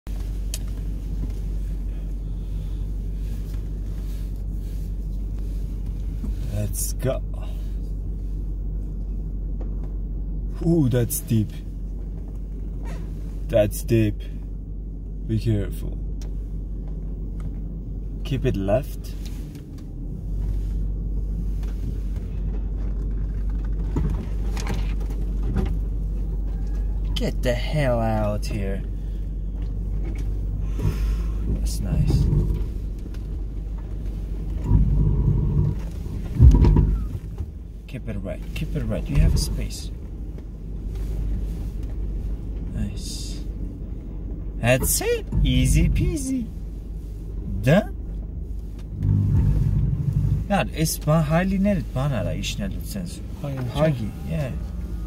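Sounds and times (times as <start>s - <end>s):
car engine low rumble: 0.0s - 55.0s.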